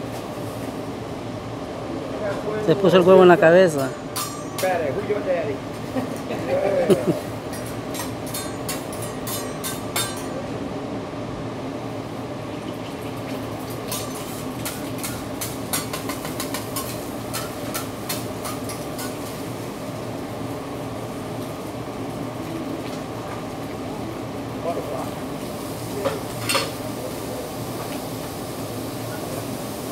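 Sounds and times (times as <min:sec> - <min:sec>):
steady background hum: 0:00.0 - 0:29.9.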